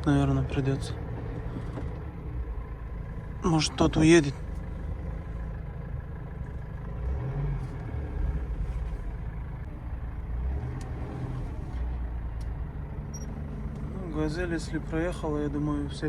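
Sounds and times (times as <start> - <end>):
van engine and road rumble: 0.0 - 16.0.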